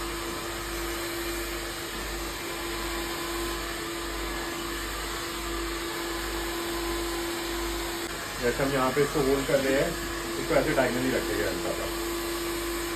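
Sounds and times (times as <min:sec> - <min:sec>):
hair dryer blowing: 0:00.0 - 0:12.9.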